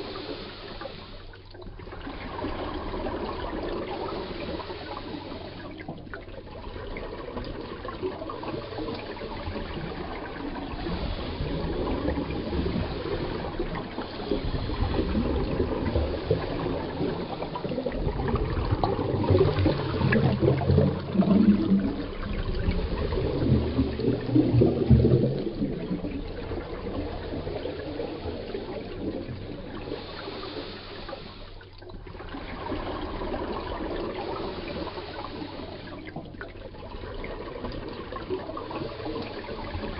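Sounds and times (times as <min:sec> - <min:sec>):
underwater diver breathing: 0:00.0 - 0:06.2, 0:07.9 - 0:36.3
bubbles rushing and gurgling: 0:00.0 - 0:39.9.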